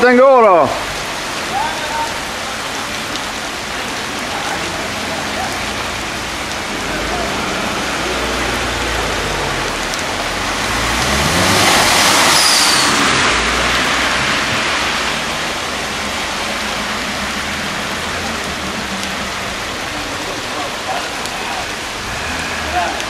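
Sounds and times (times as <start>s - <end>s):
car driving through water: 0.0s - 23.0s
heavy rain falling: 0.0s - 23.0s.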